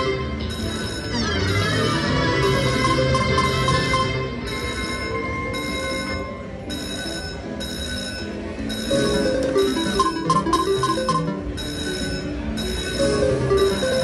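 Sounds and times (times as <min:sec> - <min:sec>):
slot machine music: 0:00.0 - 0:14.0
slot machine win bells: 0:00.0 - 0:14.0.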